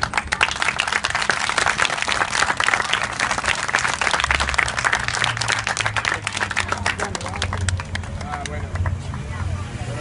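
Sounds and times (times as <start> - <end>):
crowd of children clapping: 0.0 - 9.6.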